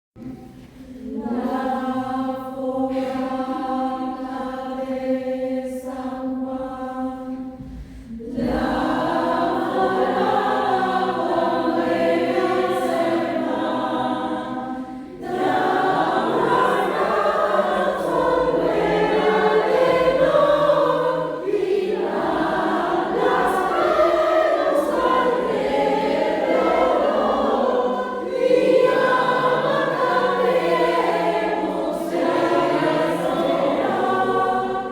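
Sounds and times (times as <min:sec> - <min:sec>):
choir singing: 0:00.2 - 0:34.9.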